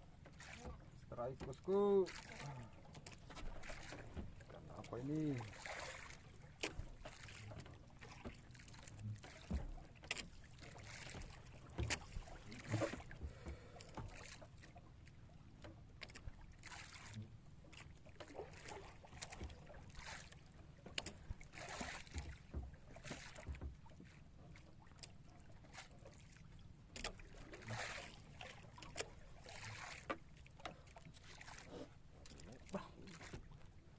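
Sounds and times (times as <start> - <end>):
knocks and rustles on boat: 0.0 - 33.9.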